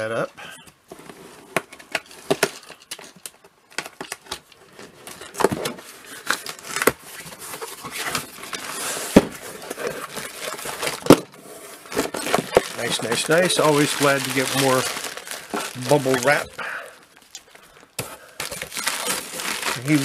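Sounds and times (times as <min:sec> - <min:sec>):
packaging crinkling and crackling: 0:01.6 - 0:20.0.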